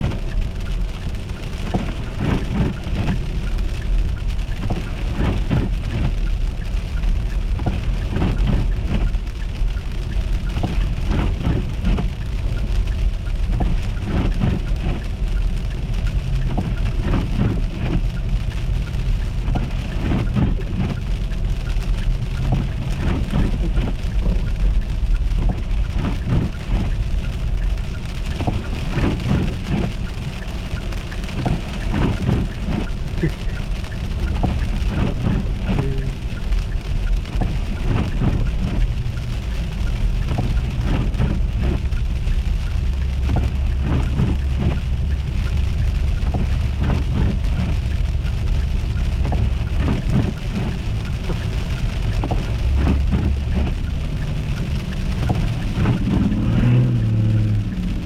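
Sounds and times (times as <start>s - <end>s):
car rumbling on icy road: 0.0s - 58.0s.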